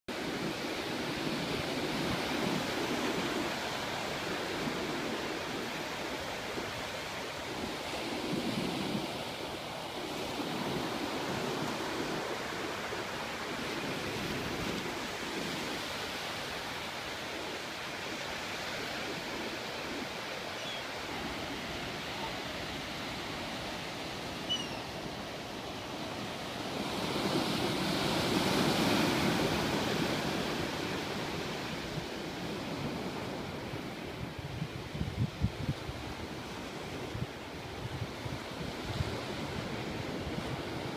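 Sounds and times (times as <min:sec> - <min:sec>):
ocean surf breaking on beach: 0:00.1 - 0:40.9.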